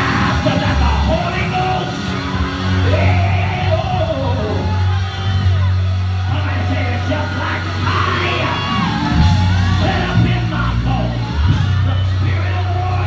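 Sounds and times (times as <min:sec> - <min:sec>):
church praise music: 0:00.0 - 0:13.0
voices shouting and singing: 0:00.0 - 0:13.0.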